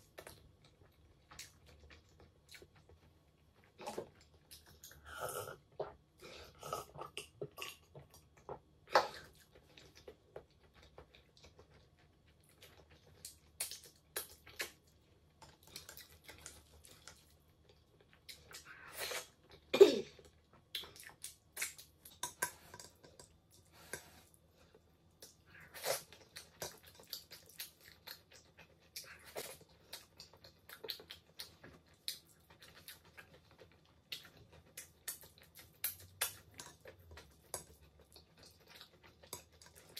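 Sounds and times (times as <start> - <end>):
wet chewing: 6.8 - 39.9.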